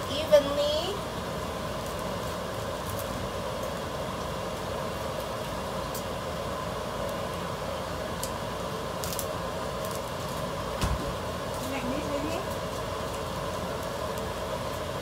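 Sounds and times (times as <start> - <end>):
steady kitchen drone: 0.0 - 15.0.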